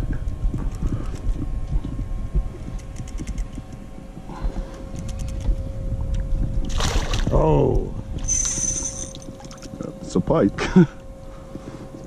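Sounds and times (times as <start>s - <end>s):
boat rumble: 0.0s - 12.0s
faint steady whine: 0.0s - 12.0s
wind: 0.0s - 12.0s.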